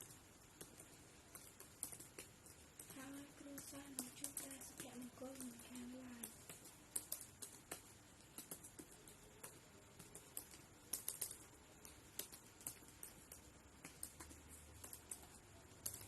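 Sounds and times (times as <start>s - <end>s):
typing on computer keyboard: 0.0s - 16.0s.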